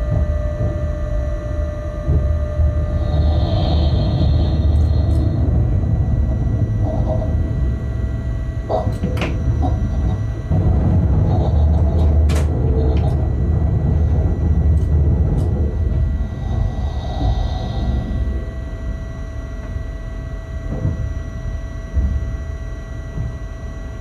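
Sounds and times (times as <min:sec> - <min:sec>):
constant whine: 0:00.0 - 0:24.0
locomotive low rumble: 0:00.0 - 0:24.0.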